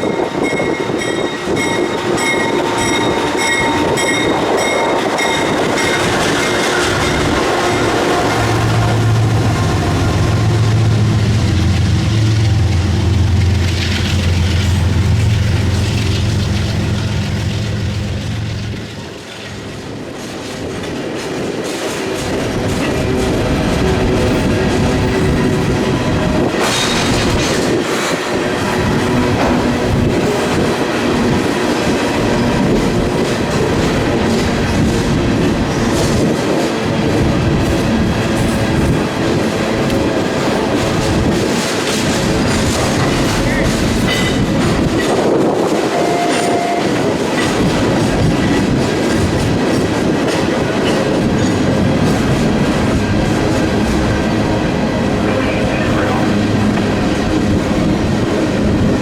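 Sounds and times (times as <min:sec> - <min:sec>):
train wheels clattering over rail joints: 0:00.0 - 0:55.3.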